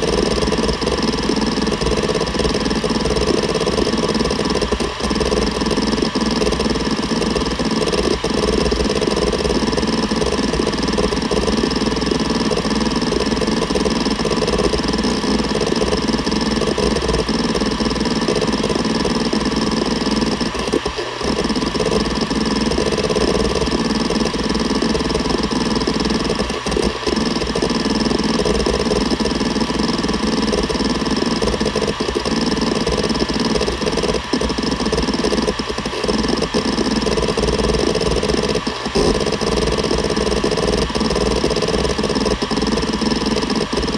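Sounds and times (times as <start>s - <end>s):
hard drive head clicks: 0.0s - 43.9s
hard drive spindle hum: 0.0s - 43.9s.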